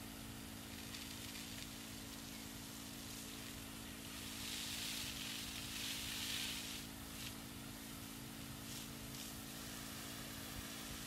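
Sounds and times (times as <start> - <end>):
hose spraying water: 0.6 - 11.0.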